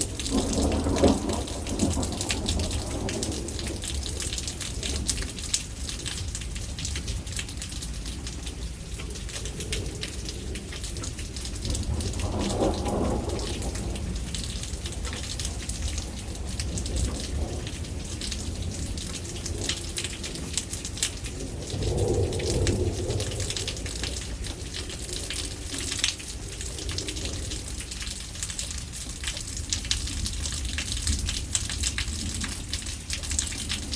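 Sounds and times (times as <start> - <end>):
low thunder rumble: 0.0 - 33.9
rain pattering: 0.0 - 33.9.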